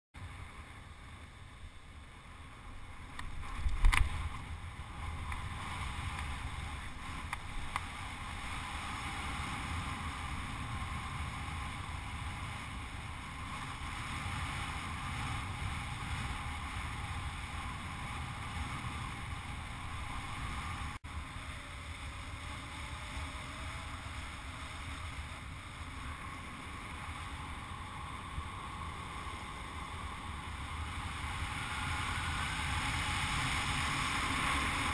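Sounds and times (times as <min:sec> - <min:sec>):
wind rushing over microphone: 0:00.2 - 0:34.9.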